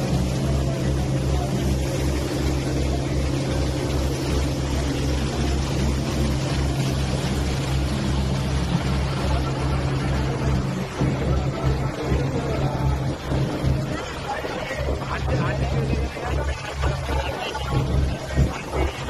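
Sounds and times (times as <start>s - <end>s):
boat engine throbbing: 0.0s - 19.0s
rush of wind and water: 0.0s - 19.0s.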